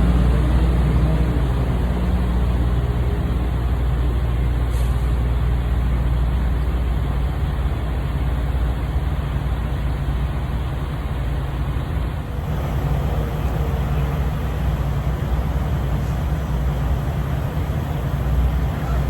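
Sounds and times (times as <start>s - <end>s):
idling truck engines: 0.0s - 19.0s
road and traffic noise: 0.0s - 19.0s.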